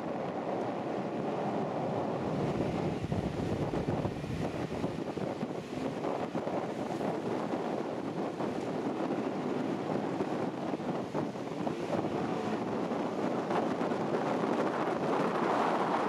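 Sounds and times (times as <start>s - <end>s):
outboard motor droning: 0.0s - 16.0s
wind buffeting microphone: 0.0s - 16.0s.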